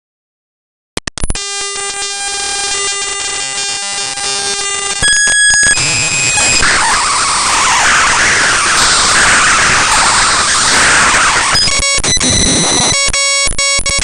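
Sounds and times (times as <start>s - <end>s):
noisy static: 1.1s - 14.0s
high beeping tones: 1.3s - 14.0s
harsh buzzing drone: 1.4s - 13.3s.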